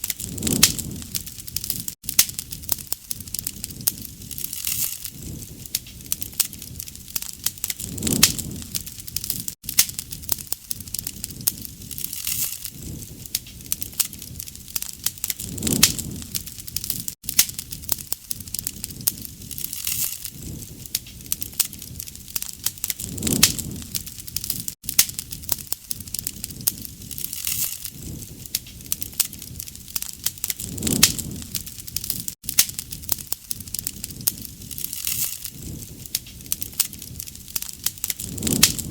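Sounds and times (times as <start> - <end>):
campfire crackling and popping: 0.0 - 38.9
low whoosh of flame: 0.0 - 38.9.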